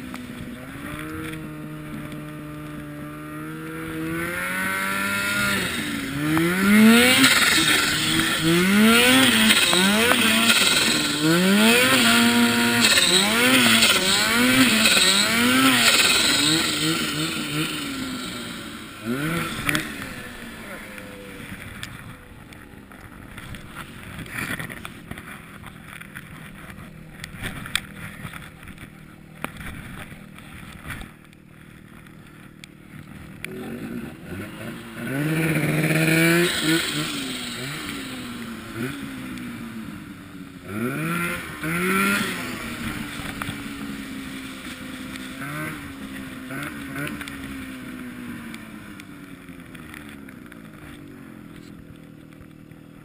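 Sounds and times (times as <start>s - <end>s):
snowmobile engine revving: 0.0s - 31.1s, 31.7s - 49.9s.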